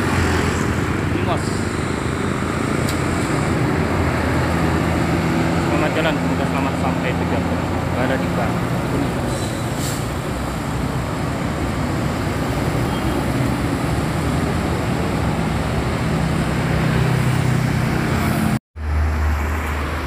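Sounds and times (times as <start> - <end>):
bus pulling away: 0.0 - 20.0
heavy engine running: 0.0 - 20.0
road traffic: 0.0 - 20.0.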